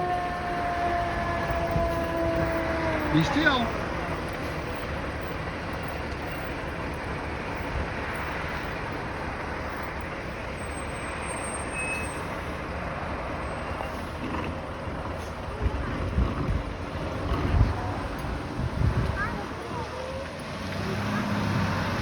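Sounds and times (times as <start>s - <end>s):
large vehicle engine running: 0.0s - 22.0s
road and traffic noise: 0.0s - 22.0s.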